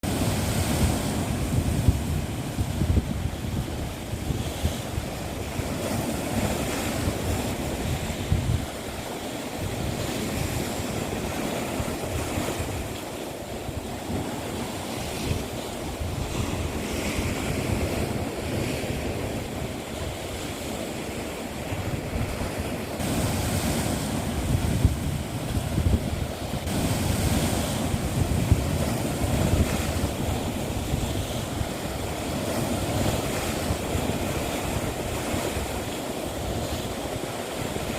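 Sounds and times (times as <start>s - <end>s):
sea waves washing onto shore: 0.0s - 37.9s
wind rumbling on microphone: 0.0s - 37.9s.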